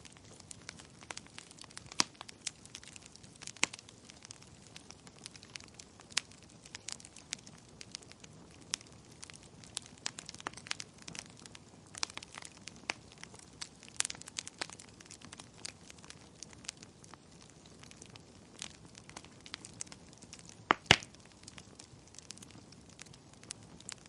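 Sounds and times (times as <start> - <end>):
low steady hiss: 0.0 - 24.0
wood fire crackling and popping: 0.0 - 24.0.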